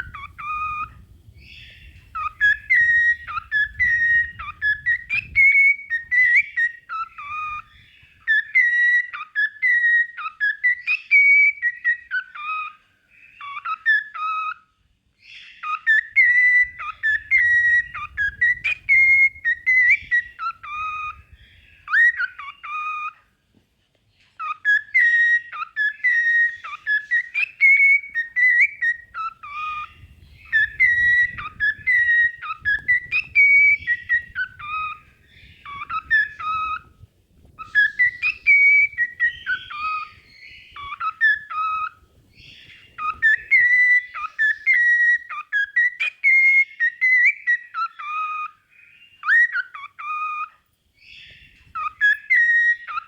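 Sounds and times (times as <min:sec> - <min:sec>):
cockatiel whistling song: 0:00.0 - 0:23.3, 0:24.4 - 0:53.0.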